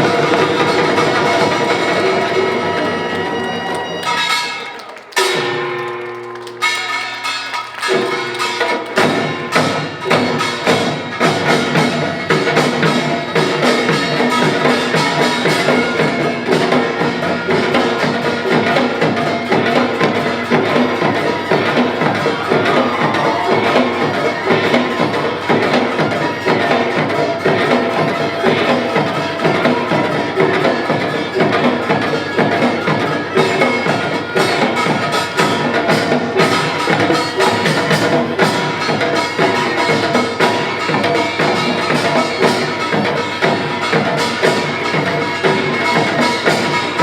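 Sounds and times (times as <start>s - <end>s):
gongs and drums playing: 0.0s - 47.0s.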